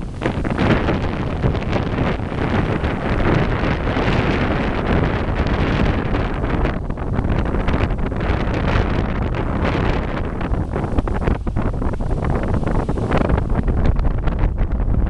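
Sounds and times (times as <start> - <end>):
strong wind gusting on microphone: 0.0 - 15.0.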